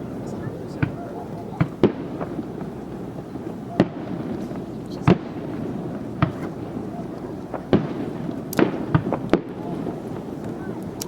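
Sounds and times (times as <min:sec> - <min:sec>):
fireworks booms: 0:00.0 - 0:11.0
fireworks crackles: 0:00.0 - 0:11.0
steady background noise: 0:00.0 - 0:11.0.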